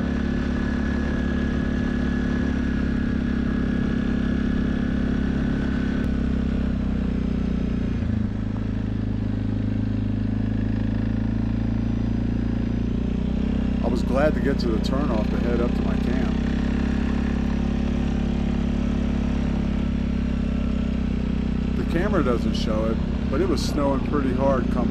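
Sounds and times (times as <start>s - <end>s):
off-road vehicle engine: 0.0s - 24.9s.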